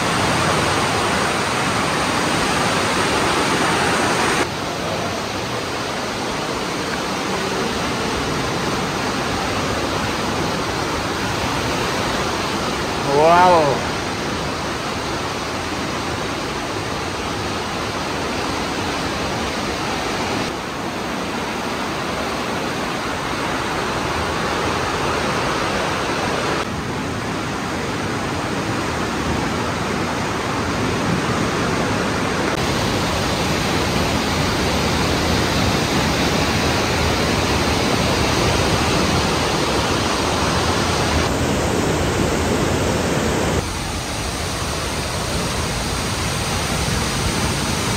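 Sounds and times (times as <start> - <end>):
river rushing through gorge: 0.0 - 47.9
waterfall: 0.0 - 47.9.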